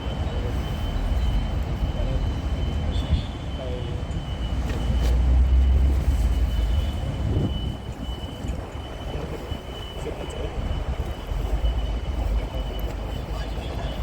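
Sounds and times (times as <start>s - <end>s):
heavy vehicle engine rumbling: 0.0s - 14.0s.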